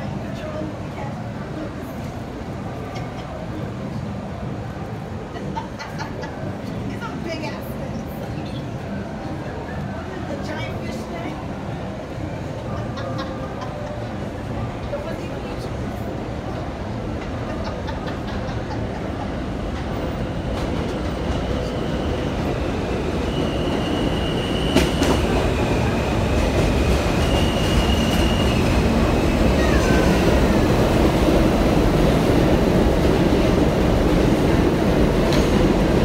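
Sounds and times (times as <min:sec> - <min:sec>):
subway train rumble: 0:00.0 - 0:36.0.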